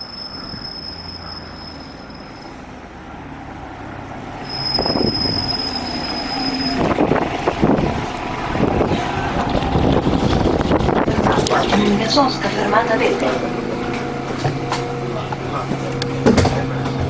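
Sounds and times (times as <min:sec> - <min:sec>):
bus engine and tyres: 0:00.0 - 0:17.0.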